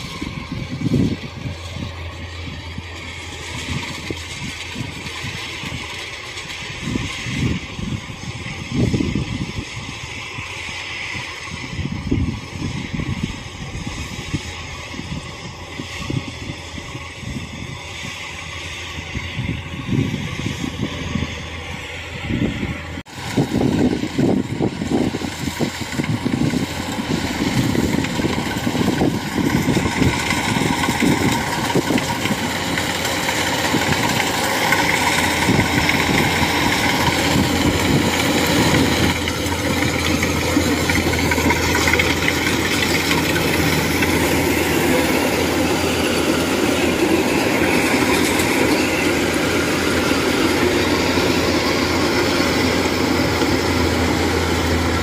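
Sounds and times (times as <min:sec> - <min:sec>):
combine harvester engine and threshing: 0:00.0 - 0:55.0.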